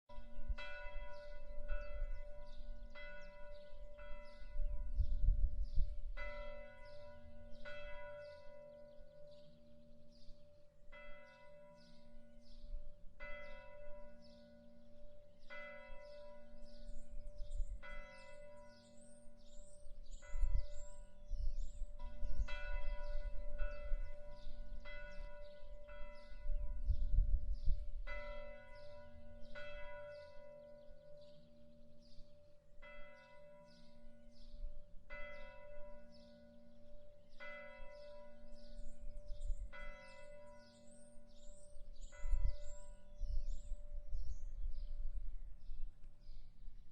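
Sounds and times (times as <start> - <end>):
distant church bell tolling: 0.1 - 44.9.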